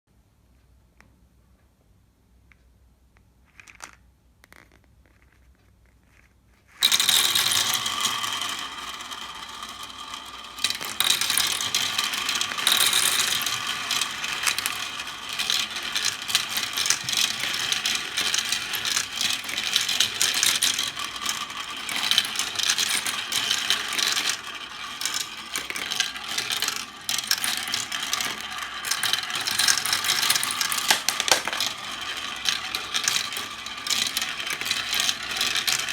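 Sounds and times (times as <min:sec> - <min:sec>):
glass marbles clattering: 0:06.8 - 0:35.9.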